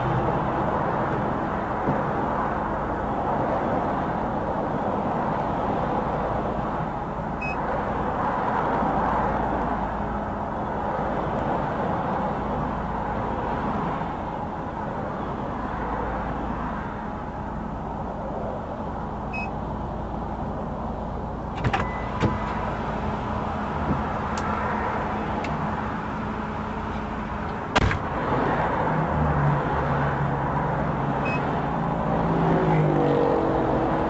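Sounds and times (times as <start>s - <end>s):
car running: 0.0s - 34.0s.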